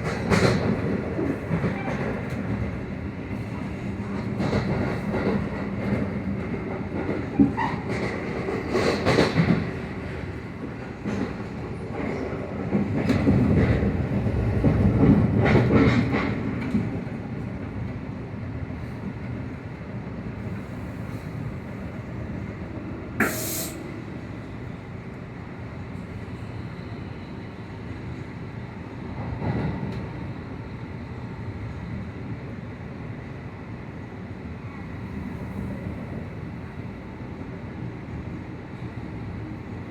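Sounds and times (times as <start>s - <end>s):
train rumbling over rails: 0.0s - 39.9s.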